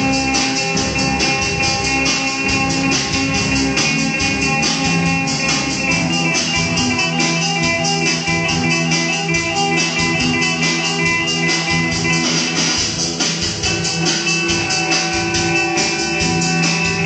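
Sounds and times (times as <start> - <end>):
fast percussion beat: 0.0 - 17.0
guitar: 0.0 - 17.0.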